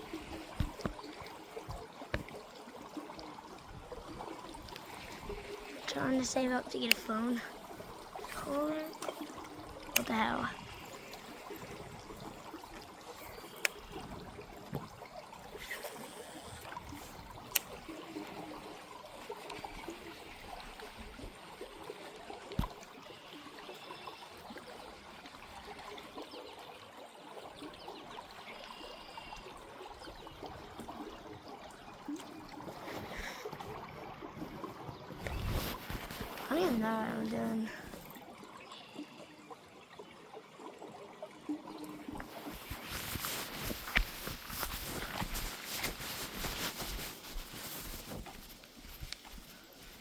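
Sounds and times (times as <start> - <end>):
creek water trickling: 0.0 - 50.0.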